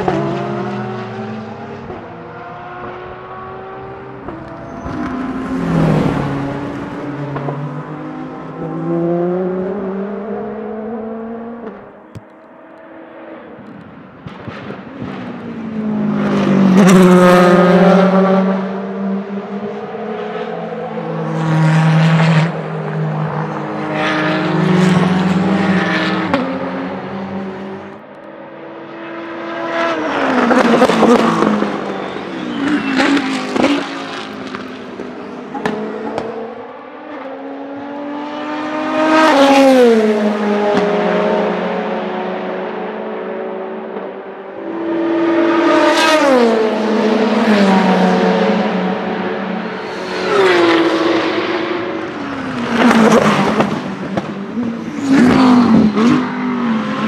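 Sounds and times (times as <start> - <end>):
different race car: 0.0 - 57.0
race car engine passing: 0.0 - 57.0.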